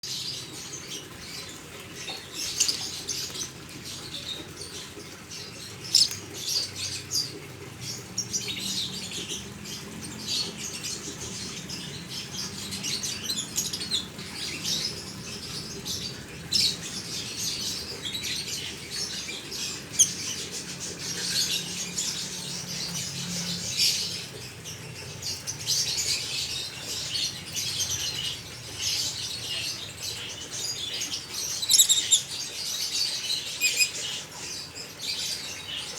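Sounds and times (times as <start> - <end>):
lovebirds chirping: 0.0 - 35.9.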